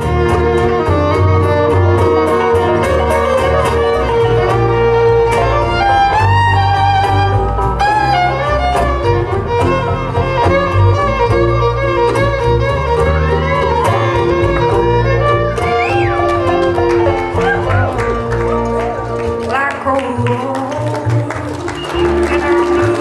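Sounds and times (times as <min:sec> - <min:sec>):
bowed fiddle melody: 0:00.0 - 0:23.0
mandolin: 0:00.0 - 0:23.0.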